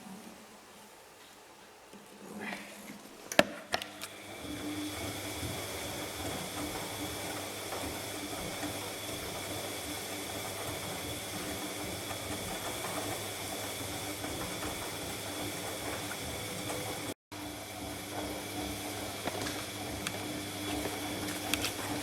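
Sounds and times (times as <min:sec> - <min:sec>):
faint motor hum: 0:03.8 - 0:22.0
washing machine hiss: 0:04.1 - 0:22.0.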